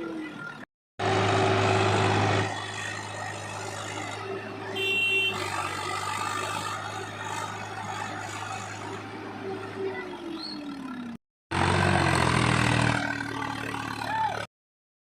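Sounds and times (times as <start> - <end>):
tractor diesel engine running: 0.0 - 14.5.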